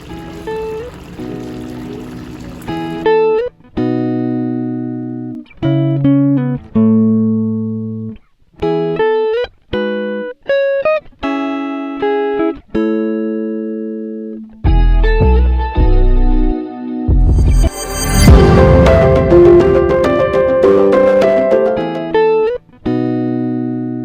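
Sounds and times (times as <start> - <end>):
plucked guitar: 0.0 - 24.0.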